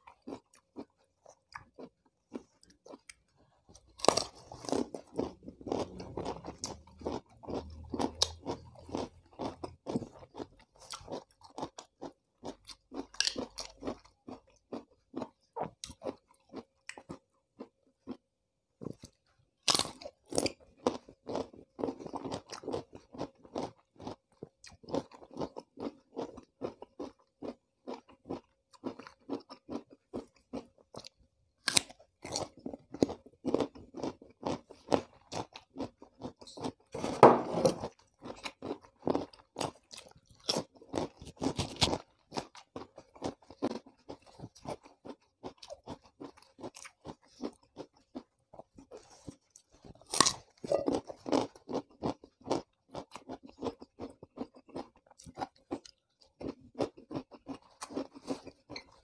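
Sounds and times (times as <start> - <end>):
person chewing crunchy vegetables: 0.0 - 59.0.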